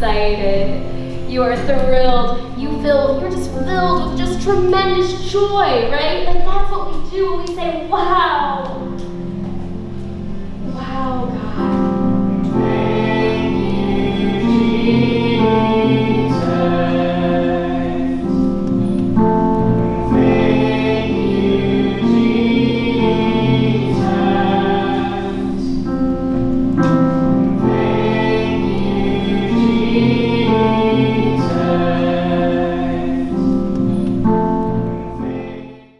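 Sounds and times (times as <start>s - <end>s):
choir singing: 0.0s - 6.3s, 7.9s - 35.9s.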